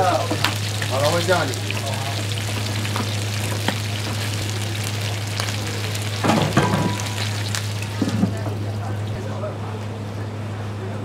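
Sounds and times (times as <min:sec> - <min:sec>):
buns sizzling in oil: 0:00.0 - 0:09.6.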